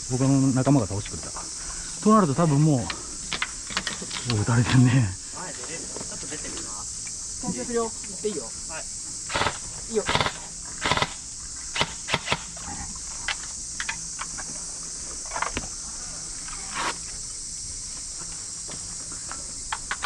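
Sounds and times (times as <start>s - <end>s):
insect chirring: 0.0s - 20.0s.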